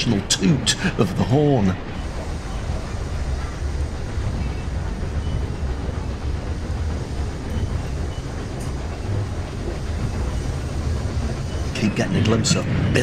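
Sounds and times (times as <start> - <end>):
railway carriage rumbling on track: 0.0 - 13.0.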